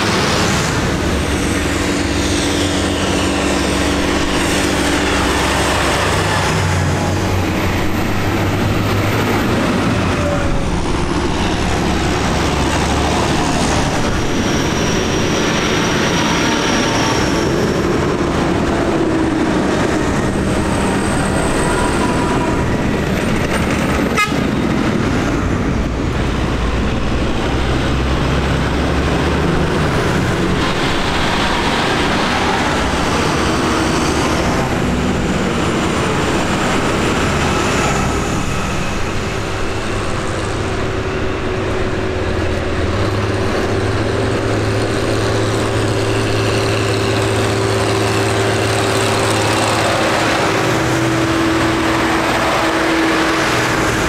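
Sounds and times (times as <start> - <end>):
tractors driving past: 0.0 - 54.0.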